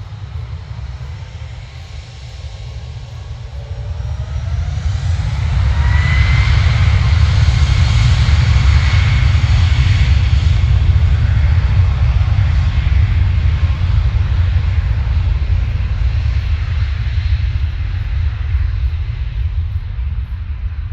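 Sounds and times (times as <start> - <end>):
jet engines on takeoff: 0.0 - 20.9.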